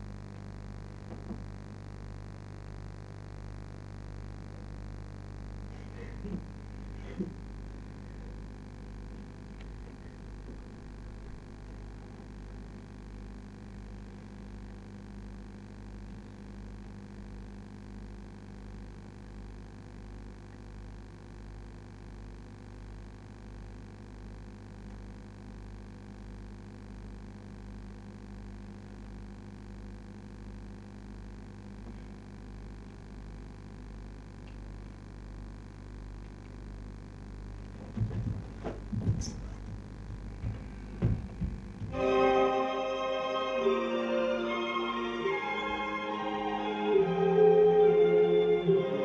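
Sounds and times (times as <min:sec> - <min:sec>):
low pulsing hum: 0:00.0 - 0:42.0.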